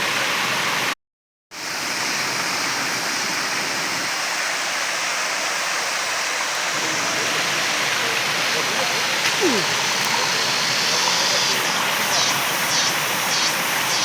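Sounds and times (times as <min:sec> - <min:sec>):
waterfall rushing: 0:01.9 - 0:14.0.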